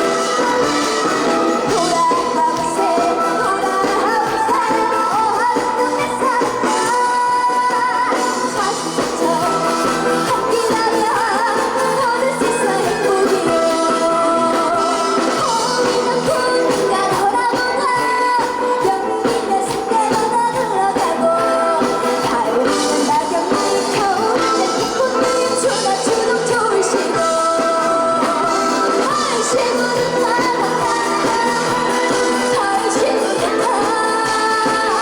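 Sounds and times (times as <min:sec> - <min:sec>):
loud backing track: 0:00.0 - 0:35.0
young woman singing: 0:00.0 - 0:35.0.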